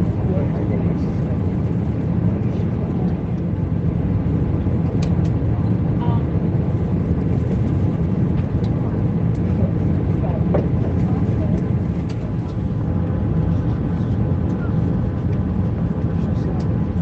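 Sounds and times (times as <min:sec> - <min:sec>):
aircraft cabin engine noise: 0:00.0 - 0:17.0.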